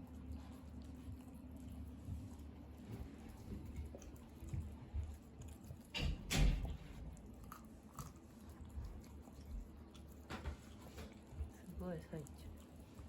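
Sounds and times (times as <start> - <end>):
dog chewing and crunching bone: 0.0 - 13.0.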